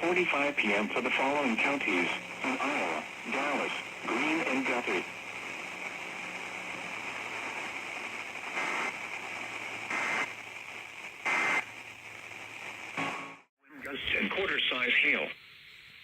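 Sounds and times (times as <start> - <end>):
radio receiver hiss: 0.0 - 16.0.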